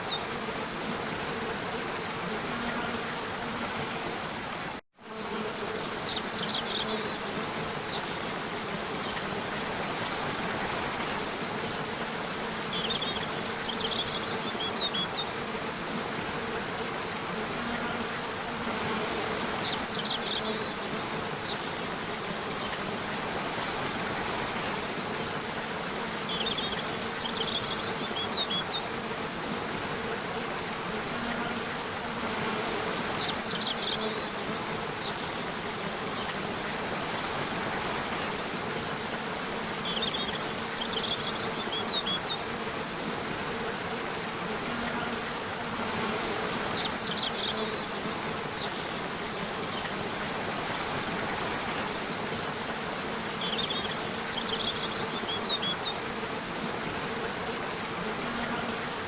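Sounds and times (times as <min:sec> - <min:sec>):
faint insect buzz: 0:00.0 - 0:59.0
flowing water rushing: 0:05.6 - 0:59.0.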